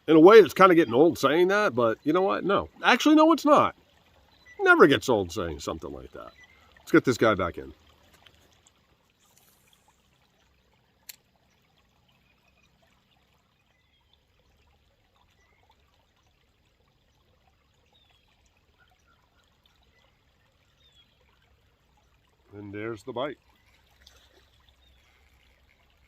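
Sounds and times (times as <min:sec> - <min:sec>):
faint river water flowing: 0:00.0 - 0:26.0.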